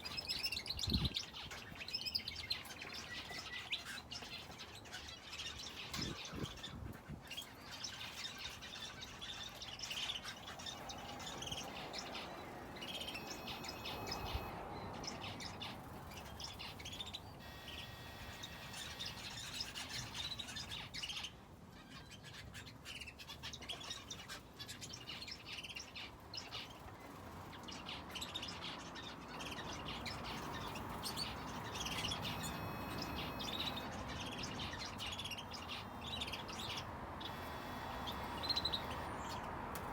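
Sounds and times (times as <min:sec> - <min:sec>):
finches and canary chirping: 0:00.0 - 0:39.9.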